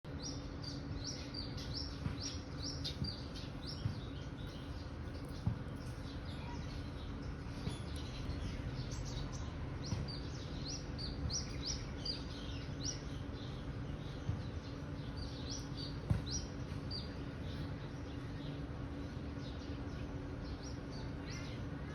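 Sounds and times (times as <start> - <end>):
low background hum: 0.1 - 21.9
small birds chirping: 0.1 - 21.9.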